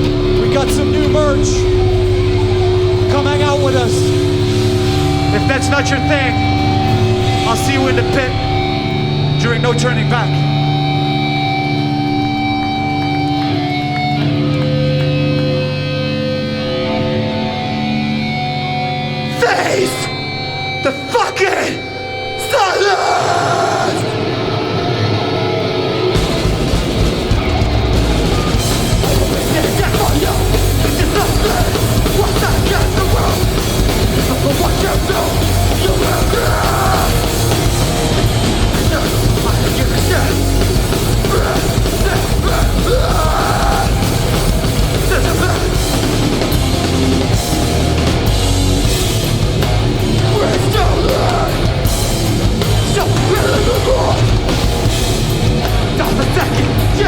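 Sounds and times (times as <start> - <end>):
heavy distorted band playing live: 0.0 - 57.0.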